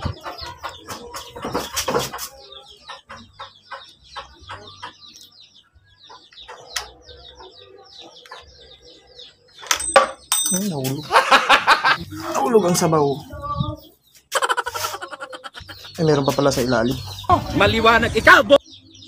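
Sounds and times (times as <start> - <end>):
birds chirping and clucking: 0.0 - 19.0.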